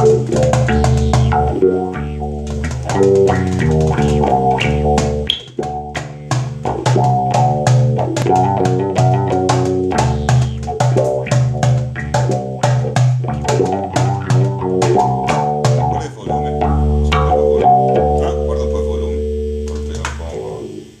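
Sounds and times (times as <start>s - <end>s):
bass line: 0.0s - 21.0s
plucked guitar notes: 0.0s - 21.0s.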